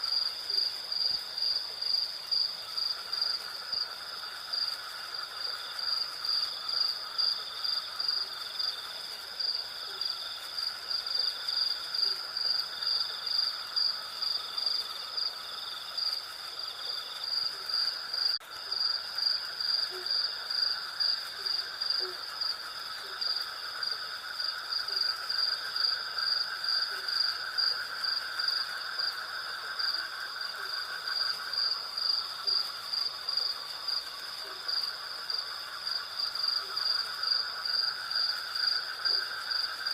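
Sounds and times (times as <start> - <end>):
crickets pulsing chirp: 0.0 - 39.9
steady insect trill: 0.0 - 39.9.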